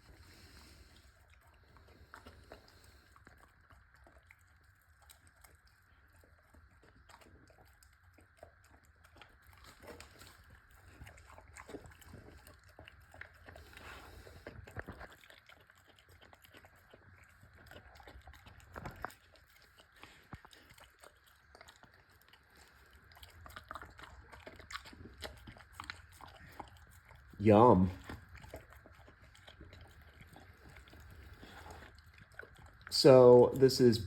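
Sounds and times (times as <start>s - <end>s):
dog chewing meat: 0.0s - 34.0s.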